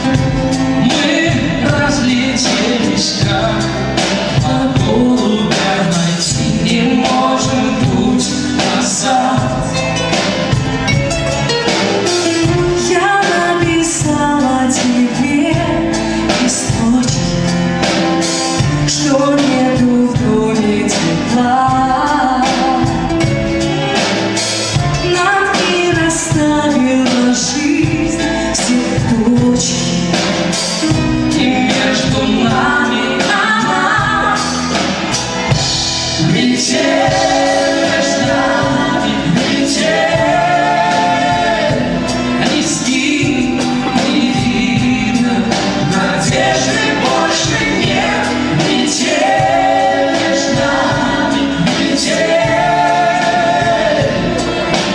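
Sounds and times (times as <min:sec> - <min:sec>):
person singing: 0:00.0 - 0:10.6, 0:11.4 - 0:35.6, 0:36.2 - 0:54.9
live band playing: 0:00.0 - 0:54.9.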